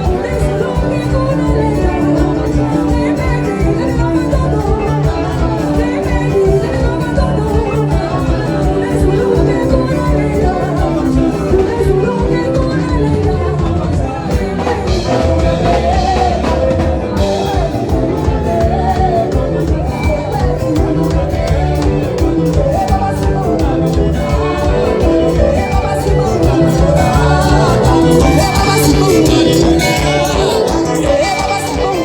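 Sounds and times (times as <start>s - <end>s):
band playing upbeat music: 0.0s - 32.0s
person singing: 0.0s - 32.0s.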